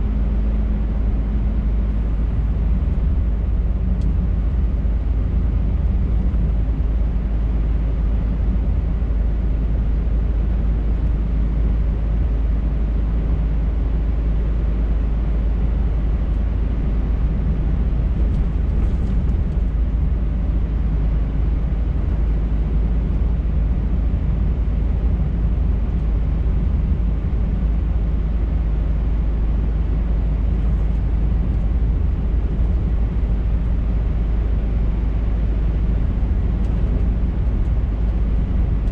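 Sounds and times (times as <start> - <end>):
diesel truck engine drone: 0.0 - 38.9
road noise: 0.0 - 38.9.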